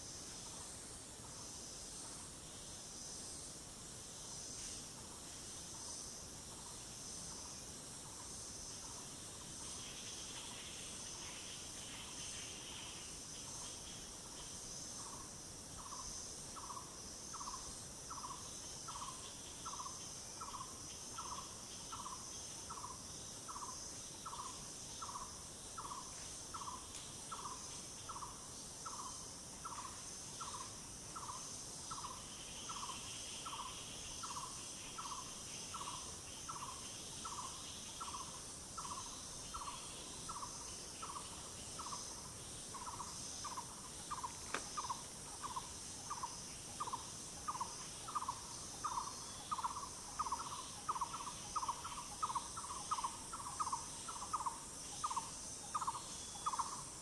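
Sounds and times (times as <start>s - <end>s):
insect chorus buzzing and trilling: 0.0s - 57.0s.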